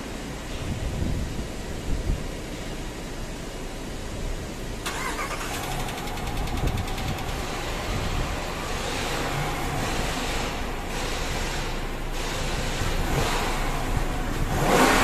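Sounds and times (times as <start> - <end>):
car engine cranking and running: 2.8 - 15.0.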